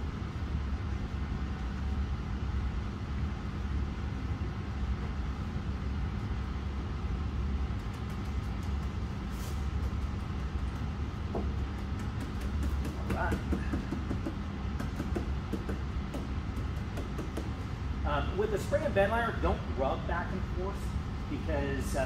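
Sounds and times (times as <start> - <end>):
low mechanical hum and rumble: 0.0 - 22.0.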